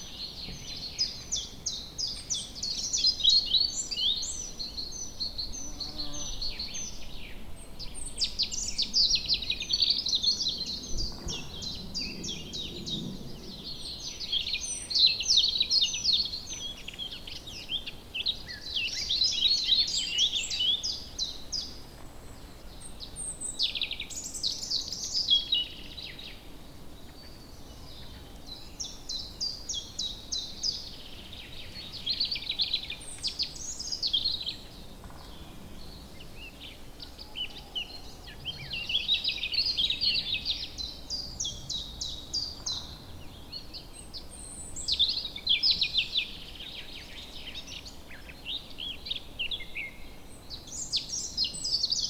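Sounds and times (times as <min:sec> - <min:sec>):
birds singing: 0:00.0 - 0:52.0
faint background hiss: 0:00.0 - 0:52.0.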